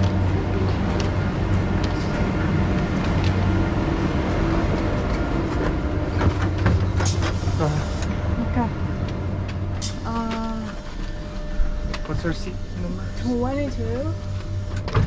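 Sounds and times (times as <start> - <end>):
train low hum: 0.0 - 15.0.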